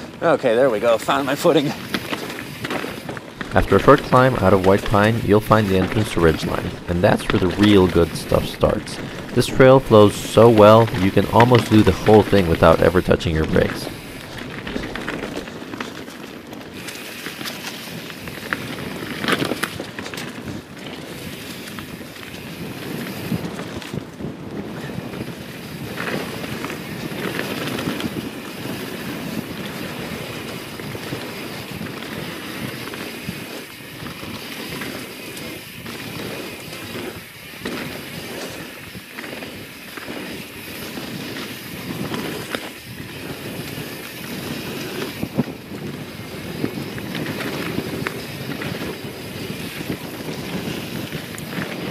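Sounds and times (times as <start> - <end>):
bike clacking over bumps: 0.0 - 51.9
bike tyres hissing over dirt: 0.0 - 51.9
wind rushing across microphone: 0.0 - 51.9.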